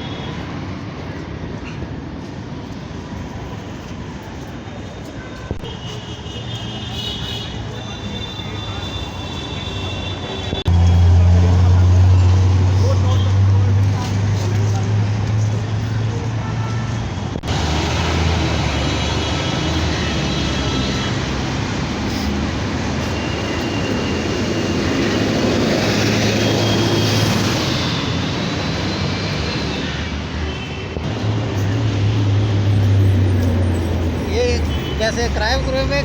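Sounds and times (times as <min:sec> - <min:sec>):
city traffic rumble: 0:00.0 - 0:36.0.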